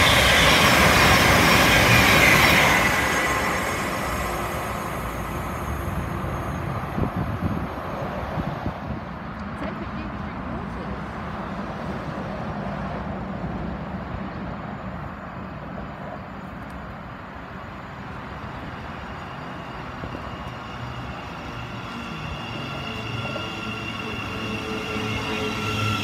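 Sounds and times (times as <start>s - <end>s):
electric train arriving: 0.0s - 26.0s
train whine of steady tones: 0.0s - 26.0s.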